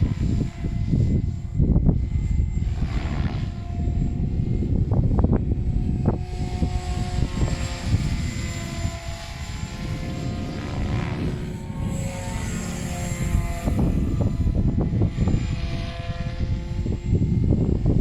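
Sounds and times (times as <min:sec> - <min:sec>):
rc helicopter rotor whine: 0:00.0 - 0:18.0
wind buffeting microphone: 0:00.0 - 0:18.0.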